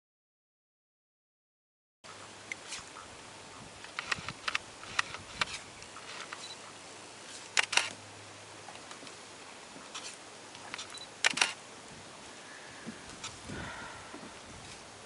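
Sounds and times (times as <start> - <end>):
faint steady hiss: 2.1 - 15.0.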